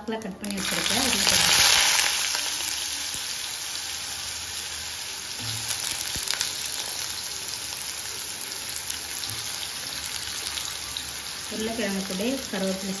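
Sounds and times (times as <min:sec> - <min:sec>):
potato sticks sizzling in oil: 0:00.4 - 0:13.0.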